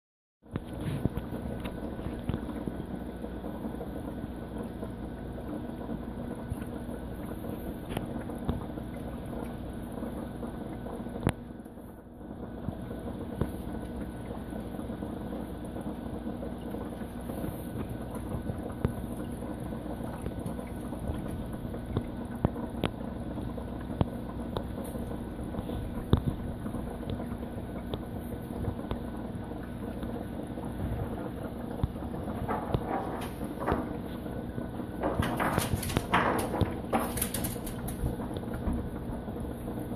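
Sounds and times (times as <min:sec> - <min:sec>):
aquarium pumps humming: 0:00.4 - 0:39.9.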